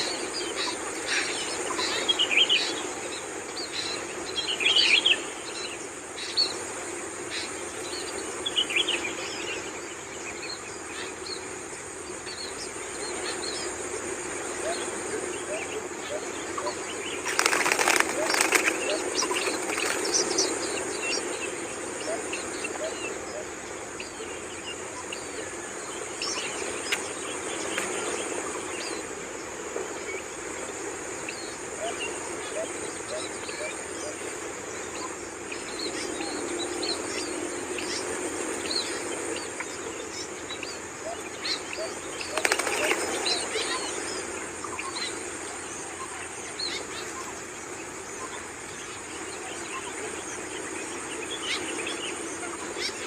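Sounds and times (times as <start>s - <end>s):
birds chirping: 0.0s - 53.0s
insect drone: 0.0s - 53.0s.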